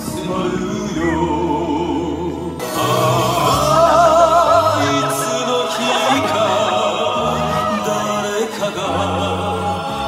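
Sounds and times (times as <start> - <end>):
person singing with vibrato: 0.0 - 10.0.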